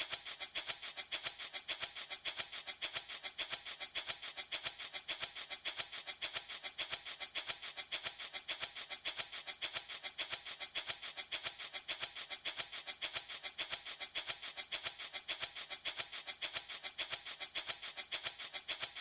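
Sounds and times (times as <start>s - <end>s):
wooden rattle shaking: 0.0s - 19.0s.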